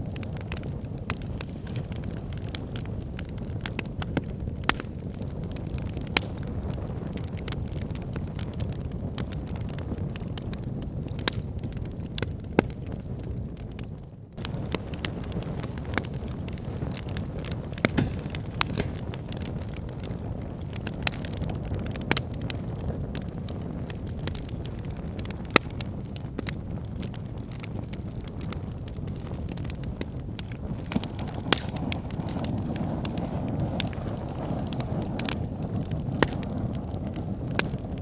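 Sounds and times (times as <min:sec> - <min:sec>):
bonfire wood crackling and popping: 0:00.0 - 0:38.0
fire low rumble: 0:00.0 - 0:38.0.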